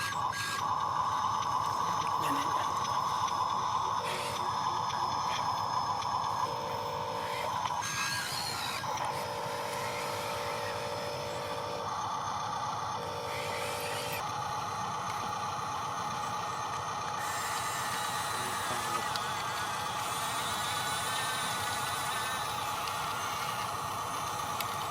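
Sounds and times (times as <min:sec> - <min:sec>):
motors whining: 0:00.0 - 0:24.9.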